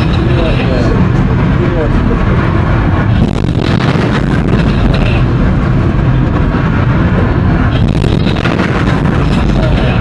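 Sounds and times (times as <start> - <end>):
rocket exhaust roar: 0.0 - 10.0.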